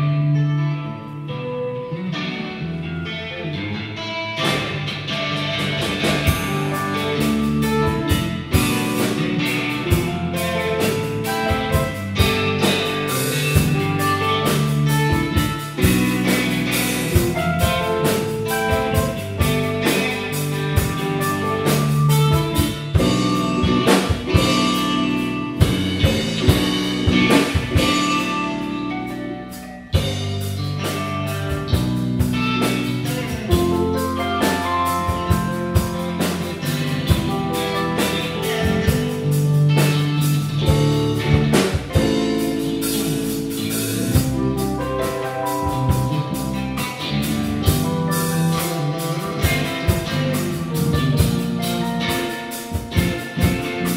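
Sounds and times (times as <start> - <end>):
bass guitar: 0.0 - 53.9
electric guitar: 0.0 - 53.9
keyboard: 0.0 - 53.9
drum kit: 4.0 - 53.9.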